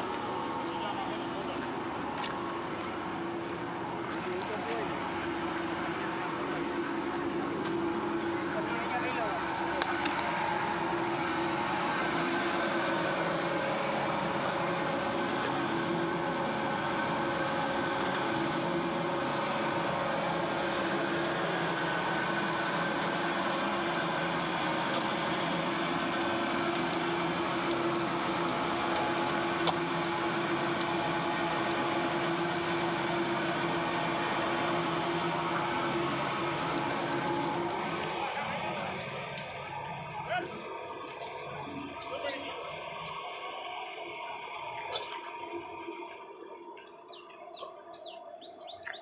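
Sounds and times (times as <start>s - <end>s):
mixer and conveyor machinery hum: 0.0s - 49.0s.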